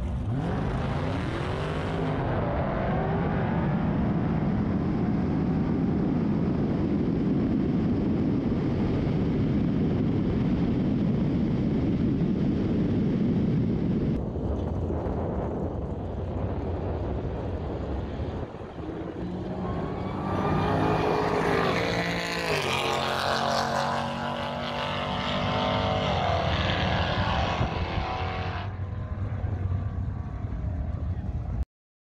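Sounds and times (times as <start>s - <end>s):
car engine at full throttle: 0.0s - 31.6s
wind buffeting microphone: 2.0s - 31.6s.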